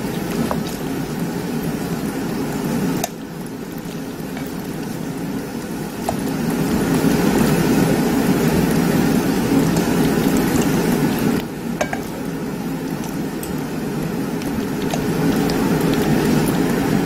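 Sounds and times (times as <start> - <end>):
meat sizzling in a grill pan: 0.0 - 17.0.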